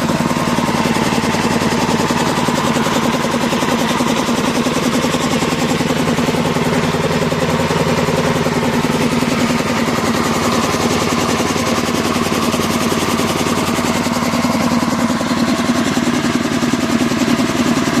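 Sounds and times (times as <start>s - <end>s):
air compressor engine running: 0.0s - 18.0s.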